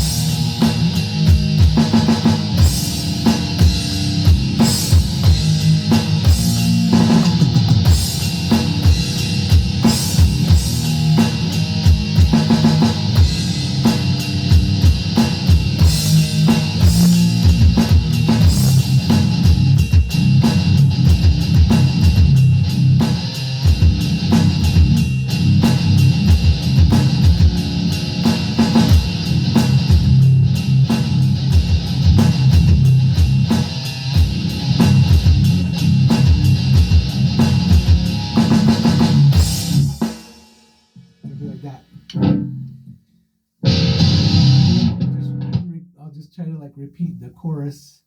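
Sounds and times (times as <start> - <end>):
electric guitar: 0.0 - 40.0, 42.0 - 43.0, 43.6 - 45.7
drum kit: 0.0 - 42.9, 43.6 - 45.8.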